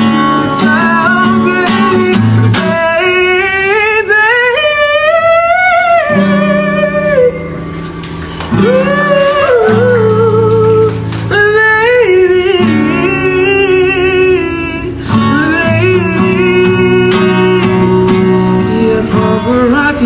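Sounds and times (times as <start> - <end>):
man singing: 0.0 - 7.5, 8.5 - 20.0
strummed acoustic guitar: 0.0 - 20.0.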